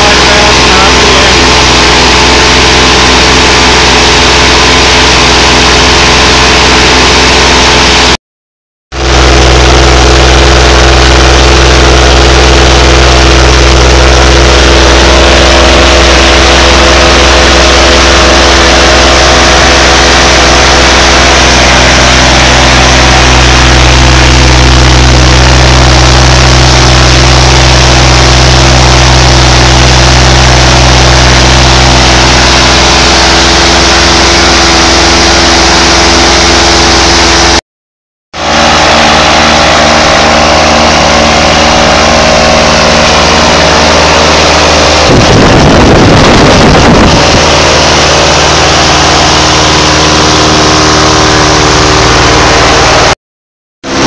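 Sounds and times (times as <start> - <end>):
paramotor engine running: 0.0 - 8.2, 8.9 - 37.6, 38.4 - 53.2.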